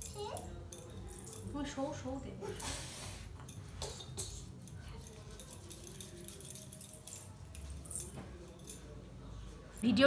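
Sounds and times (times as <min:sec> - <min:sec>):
faint light clinks: 0:00.0 - 0:02.1, 0:03.4 - 0:09.9.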